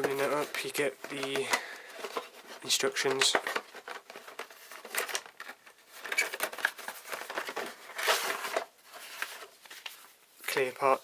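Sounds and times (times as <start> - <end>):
cardboard box rustling: 0.0 - 10.0
paper sheet rustling: 0.0 - 10.6.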